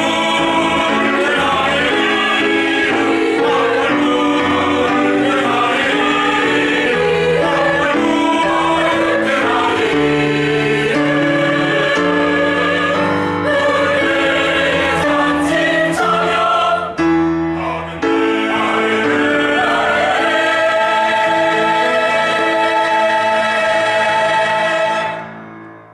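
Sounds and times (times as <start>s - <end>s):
church choir singing a hymn: 0.0s - 25.5s.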